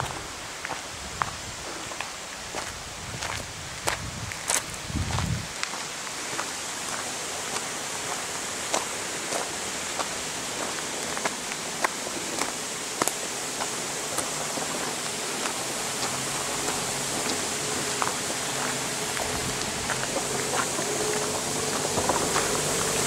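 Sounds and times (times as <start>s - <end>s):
footsteps on stony path: 0.0s - 23.0s
mountain stream rushing: 0.0s - 23.0s.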